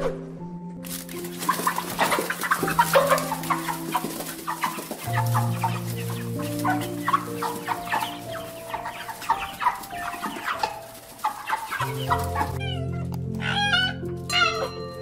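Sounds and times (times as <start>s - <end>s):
background music: 0.0s - 15.0s
hens clucking: 0.9s - 15.0s
high bending bird calls: 1.4s - 14.7s.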